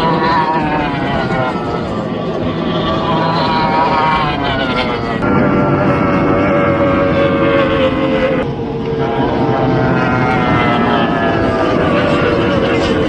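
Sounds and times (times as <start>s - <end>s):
powerboat outboard engine at high revs: 0.0s - 13.0s.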